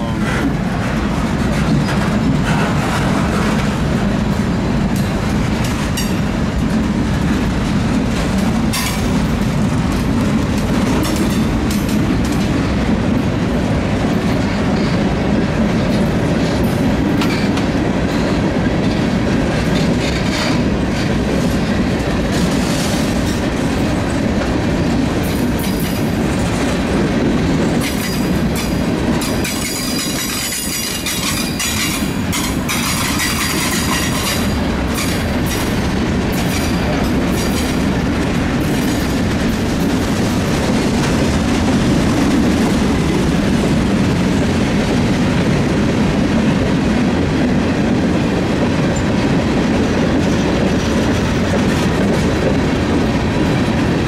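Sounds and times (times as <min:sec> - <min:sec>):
wheels clacking over rail joints: 0:00.0 - 0:45.5
freight train rumbling: 0:00.0 - 0:54.0.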